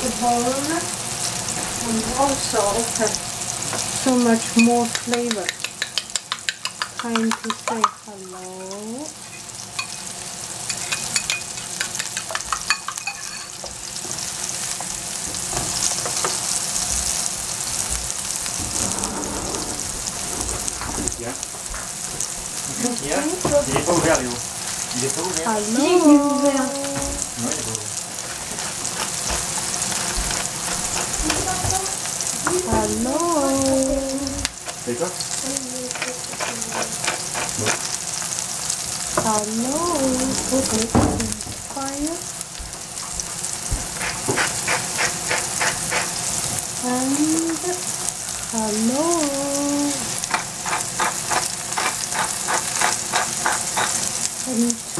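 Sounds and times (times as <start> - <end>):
mushrooms sizzling in oil: 0.0 - 19.0, 19.7 - 54.9.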